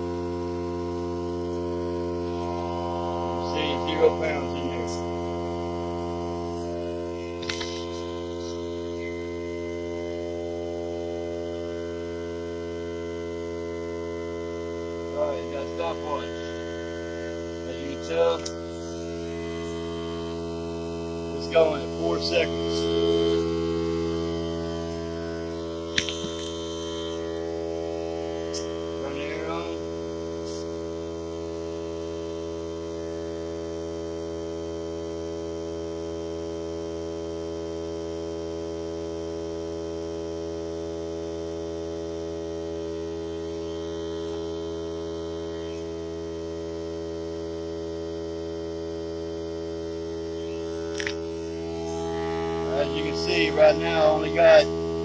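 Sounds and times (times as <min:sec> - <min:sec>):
air compressor humming: 0:00.0 - 0:55.0.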